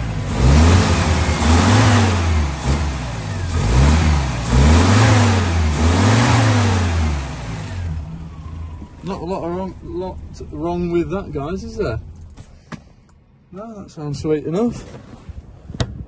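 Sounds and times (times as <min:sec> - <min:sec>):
car engine revving and idling: 0:00.0 - 0:13.5.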